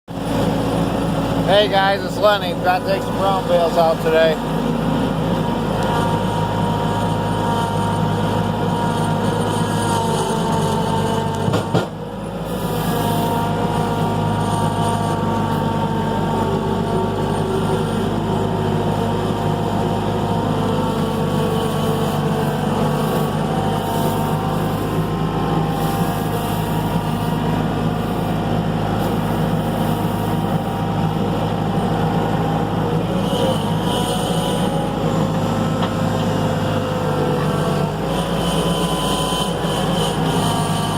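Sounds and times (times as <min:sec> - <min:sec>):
skid steer engine running: 0:00.1 - 0:40.9.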